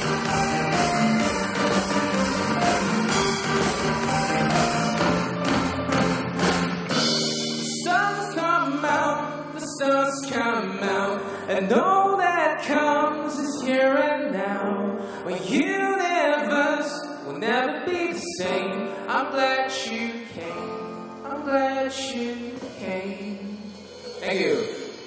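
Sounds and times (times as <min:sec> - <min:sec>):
live band playing pop: 0:00.0 - 0:14.5, 0:18.3 - 0:25.0.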